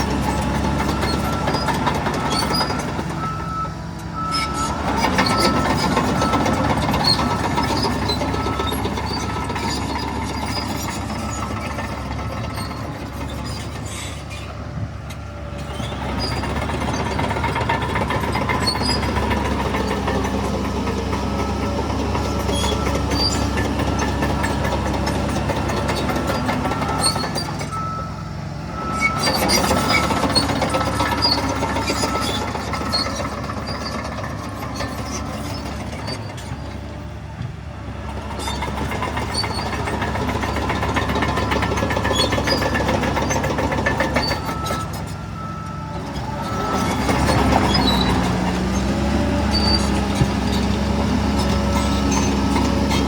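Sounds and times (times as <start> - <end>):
heavy machinery diesel engine: 0.0 - 53.0.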